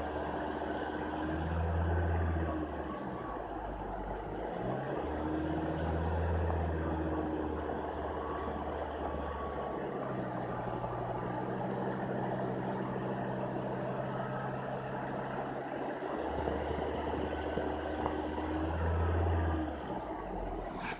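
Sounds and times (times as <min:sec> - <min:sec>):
diesel engine humming: 0:00.0 - 0:20.9
higher steady engine tone: 0:00.0 - 0:20.9.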